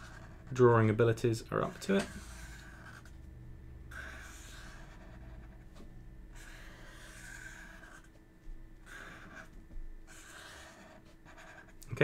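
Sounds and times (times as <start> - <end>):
marker pen scratching on paper: 0.0 - 1.0, 1.6 - 3.2, 3.9 - 8.2, 8.8 - 11.8.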